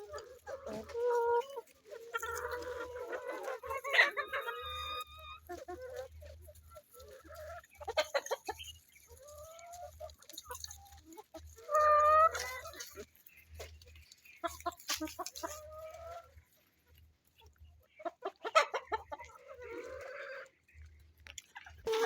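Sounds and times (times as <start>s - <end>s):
hens clucking and calling: 0.0s - 22.0s.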